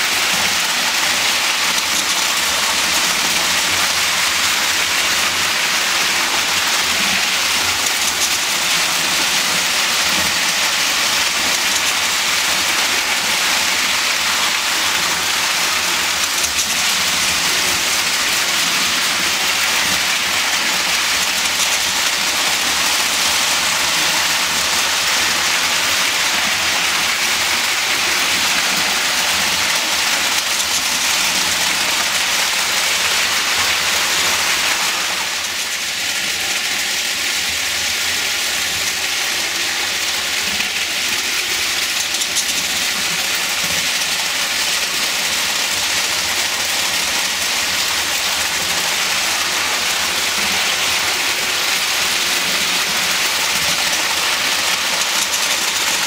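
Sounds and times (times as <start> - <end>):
toy train wheels clattering: 0.0 - 56.0.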